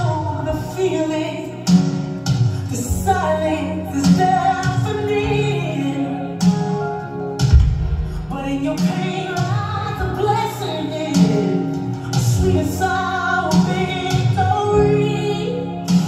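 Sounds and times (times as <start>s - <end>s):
woman singing gospel: 0.0s - 1.7s, 2.7s - 6.5s, 8.2s - 16.0s
instrumental backing: 0.0s - 16.0s.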